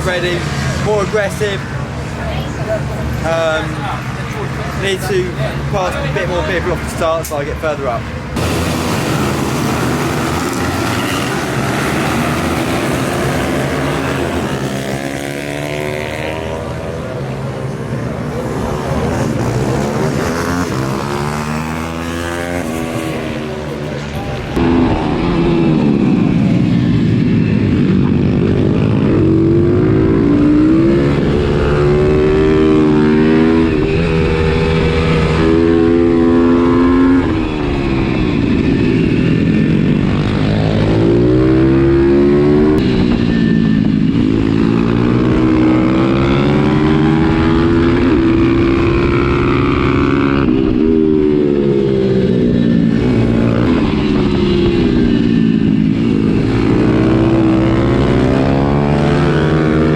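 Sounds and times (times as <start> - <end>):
motorbike engine revving: 8.0 - 17.4, 18.0 - 59.9.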